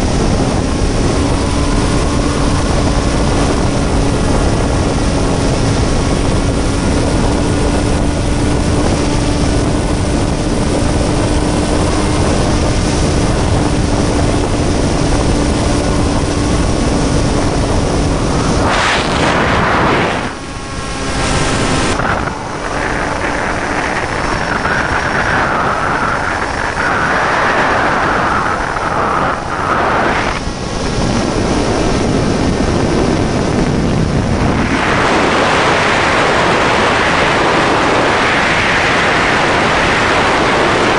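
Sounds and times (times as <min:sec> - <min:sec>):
electric motor and propeller: 0:00.0 - 0:40.9
wind rushing: 0:00.0 - 0:40.9.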